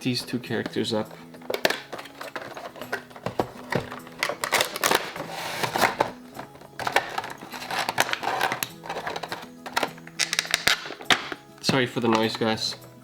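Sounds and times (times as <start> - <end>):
box and plastic insert handled: 0.0 - 12.9
crinkling rustles: 0.2 - 12.8.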